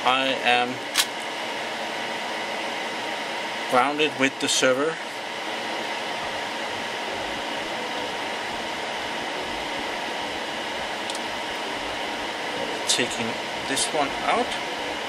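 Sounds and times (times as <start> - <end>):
cooling fans whirring: 0.0 - 15.0.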